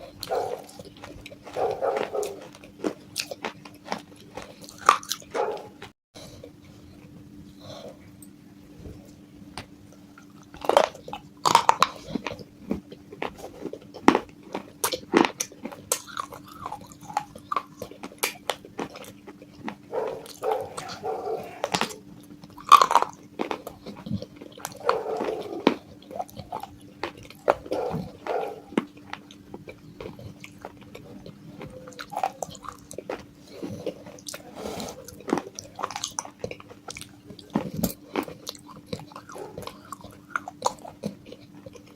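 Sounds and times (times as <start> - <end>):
chewing crunchy clay pieces: 0.0 - 41.9
steady low hum: 0.0 - 41.9.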